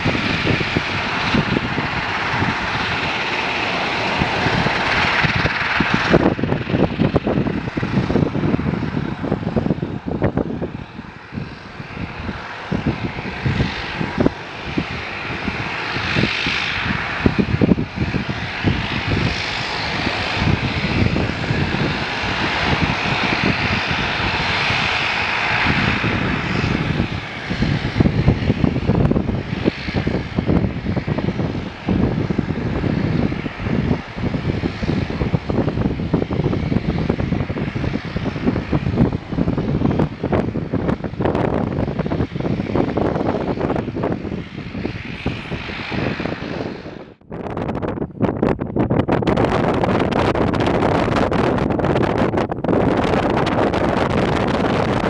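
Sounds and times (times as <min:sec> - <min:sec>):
jet engine roar: 0:00.0 - 0:55.0
wind on microphone: 0:00.0 - 0:55.0.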